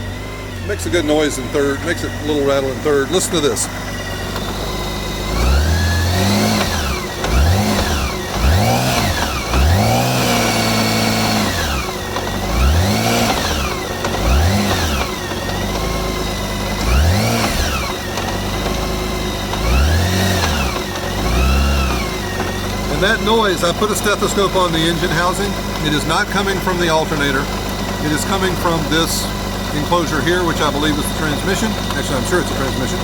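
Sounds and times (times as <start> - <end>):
motorcycle engine revving: 0.0 - 33.0
transmission rattling and banging: 0.0 - 33.0.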